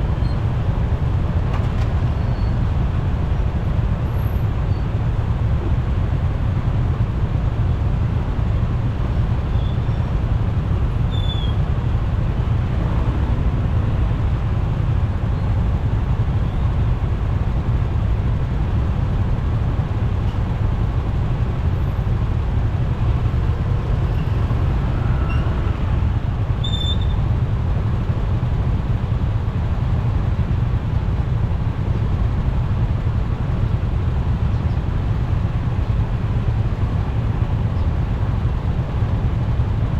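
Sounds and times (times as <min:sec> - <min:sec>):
motorcycle engine and wind rumble: 0:00.0 - 0:39.9.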